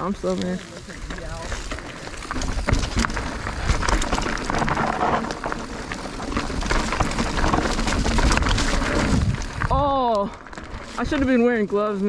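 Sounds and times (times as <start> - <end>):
bike clicks and rattles: 0.0 - 12.0
bike tyres on rock and dirt: 0.0 - 12.0.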